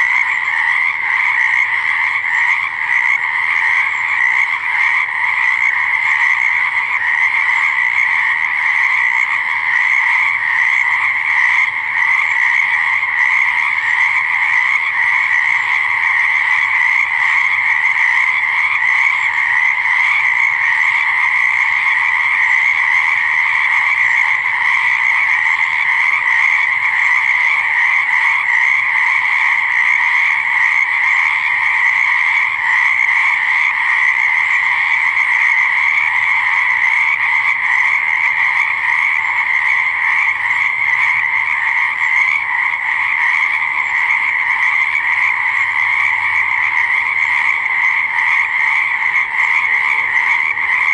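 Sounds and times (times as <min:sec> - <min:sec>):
frogs calling: 0:00.0 - 0:50.9.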